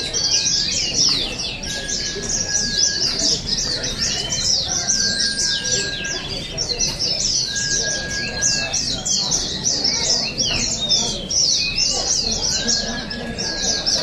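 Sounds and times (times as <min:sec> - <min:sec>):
birds chirping song: 0:00.0 - 0:14.0.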